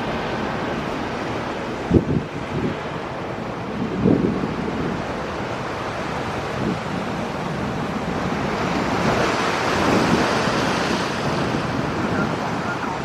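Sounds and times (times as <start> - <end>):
steady rushing noise: 0.0 - 13.0
wind buffeting microphone: 0.0 - 13.0.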